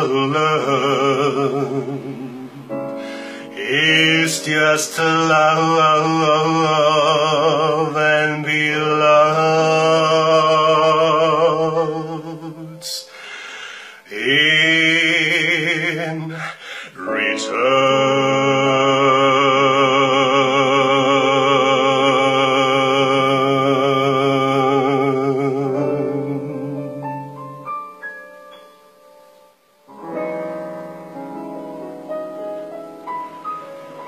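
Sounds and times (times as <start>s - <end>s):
man singing with vibrato: 0.0s - 28.0s.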